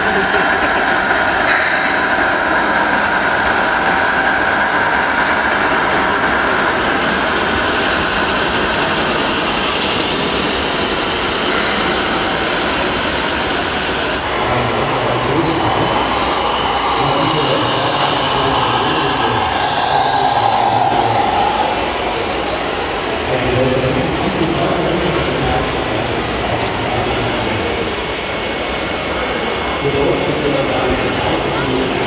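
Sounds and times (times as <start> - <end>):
murmur of voices: 0.0 - 32.0.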